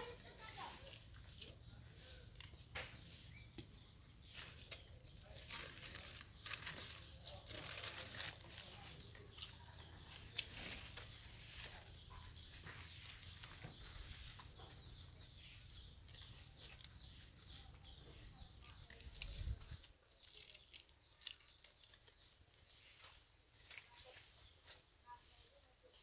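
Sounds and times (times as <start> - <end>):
dry leaves crackling and rustling: 0.0 - 26.0.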